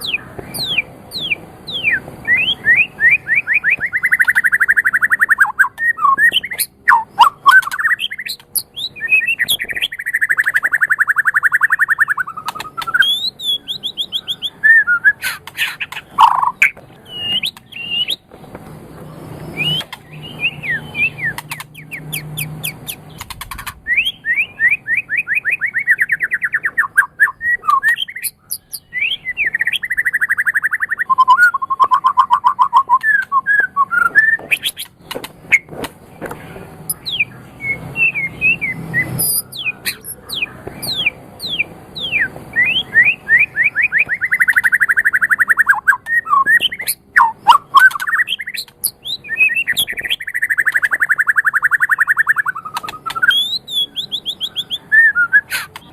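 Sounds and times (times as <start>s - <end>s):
bird singing whistles and trills: 0.0s - 18.2s, 19.1s - 35.7s, 36.9s - 55.9s
sharp clicking bird notes: 0.0s - 24.5s, 25.4s - 37.3s, 38.2s - 55.9s.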